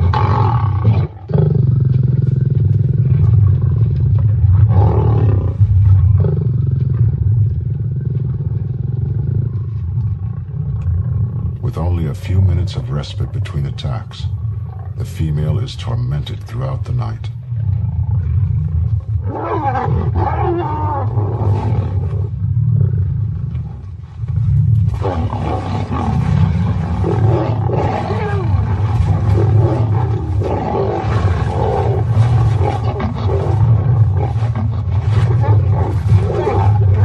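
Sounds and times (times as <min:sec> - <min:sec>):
lions growling and snarling: 0:00.0 - 0:37.0.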